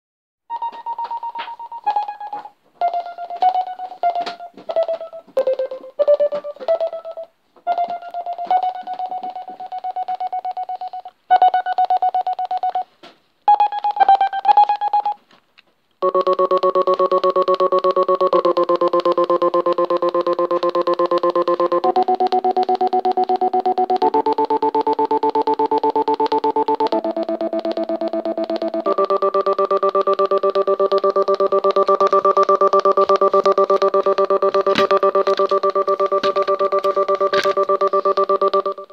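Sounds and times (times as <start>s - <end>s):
pulsing keyboard tone: 0.5s - 12.8s, 13.5s - 15.2s, 16.0s - 38.9s.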